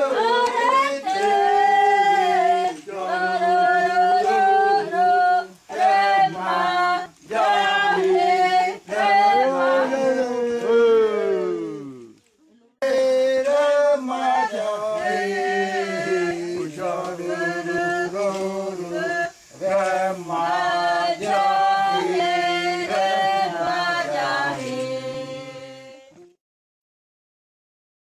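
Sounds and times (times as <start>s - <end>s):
group singing a ritual chant: 0.0s - 26.4s.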